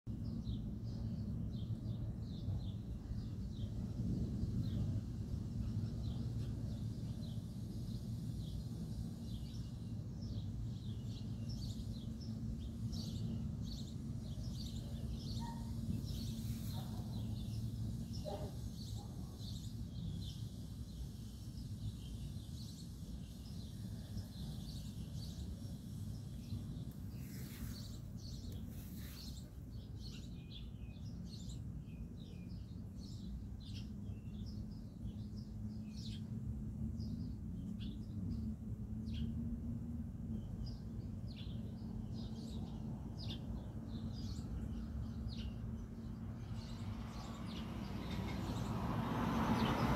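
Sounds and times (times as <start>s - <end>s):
small birds chirping: 0.1s - 49.9s.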